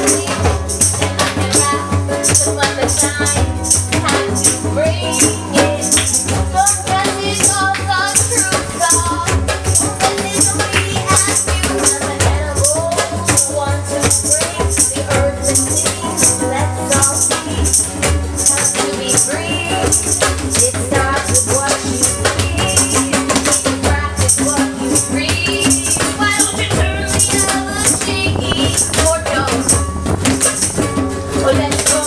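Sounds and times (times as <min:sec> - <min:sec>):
bass line: 0:00.0 - 0:32.0
shaker beat: 0:00.0 - 0:32.0.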